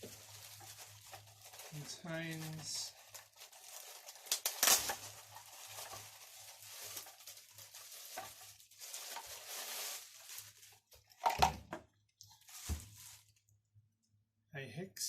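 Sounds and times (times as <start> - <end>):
packaging rustling and scraping: 0.0 - 11.4, 12.3 - 13.4.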